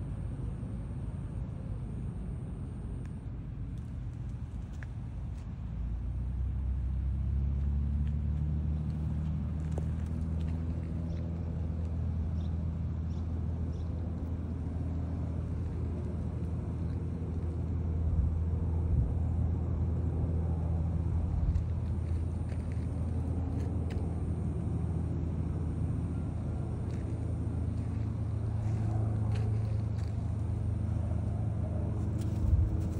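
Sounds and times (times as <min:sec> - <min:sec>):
low engine hum: 0:00.0 - 0:32.9.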